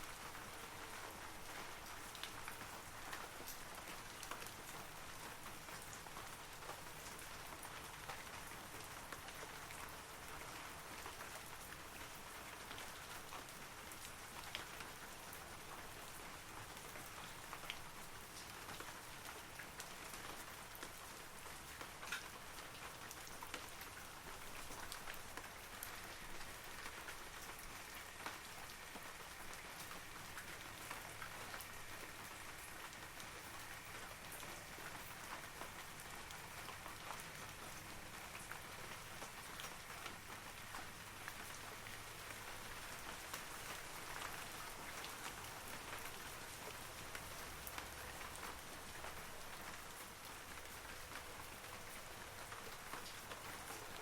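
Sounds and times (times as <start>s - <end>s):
rain pattering on trees: 0.0s - 54.0s.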